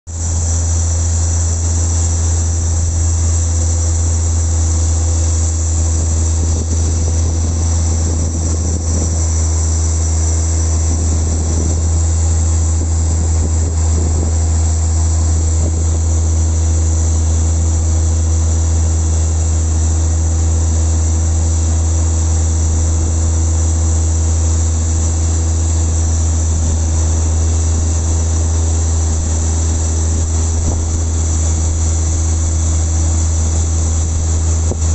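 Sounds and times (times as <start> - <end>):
airliner and tug droning: 0.1 - 34.9.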